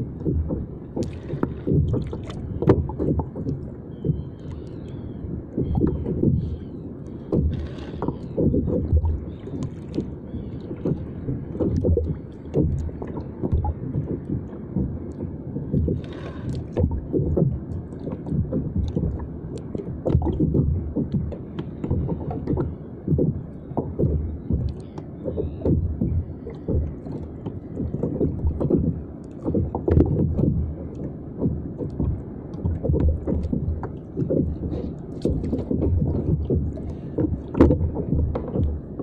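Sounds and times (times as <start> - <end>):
water slapping against hull: 0.0 - 39.0.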